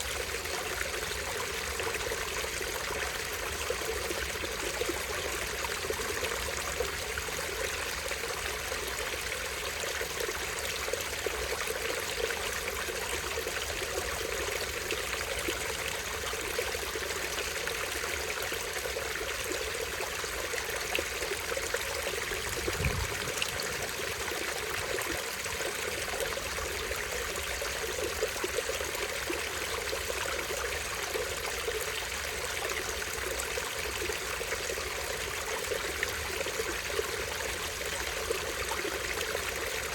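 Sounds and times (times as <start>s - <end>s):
stream over small waterfall: 0.0s - 39.9s.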